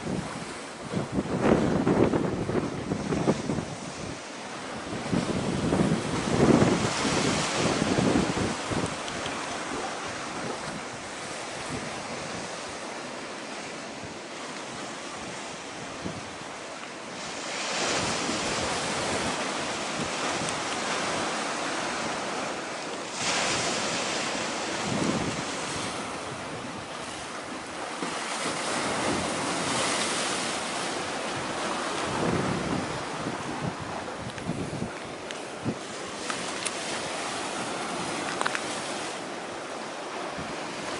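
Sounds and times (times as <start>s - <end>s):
wind gusting on microphone: 0.0s - 13.0s, 13.7s - 40.9s
sea waves: 0.0s - 40.9s.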